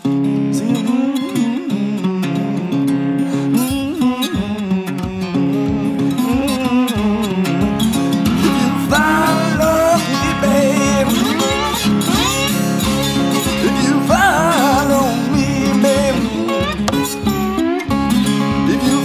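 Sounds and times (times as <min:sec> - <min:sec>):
slide guitar blues melody: 0:00.0 - 0:19.0.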